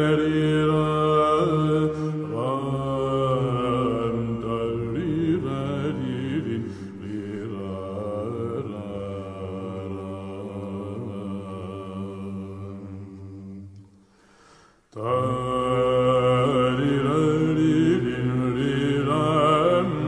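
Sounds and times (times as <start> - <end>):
held vocal drone: 0.0 - 13.7, 15.0 - 20.0.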